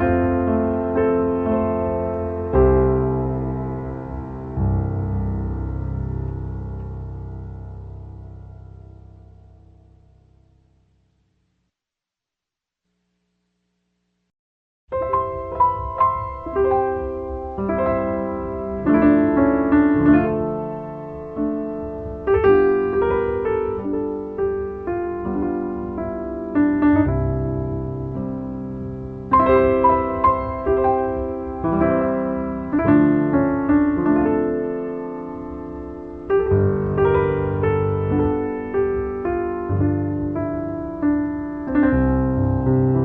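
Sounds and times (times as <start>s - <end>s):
piano music: 0.0s - 10.9s, 14.9s - 43.0s.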